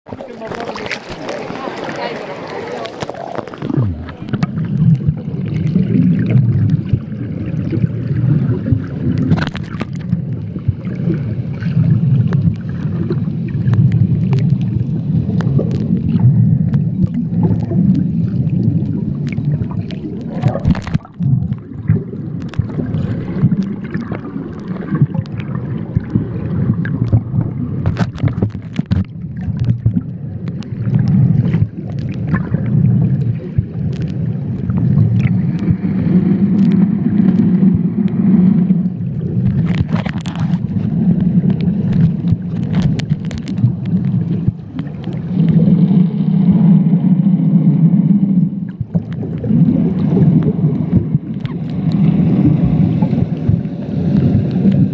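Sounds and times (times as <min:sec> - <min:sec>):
underwater clicks and crackles: 0:00.1 - 0:54.9
underwater water rumble: 0:00.1 - 0:54.9.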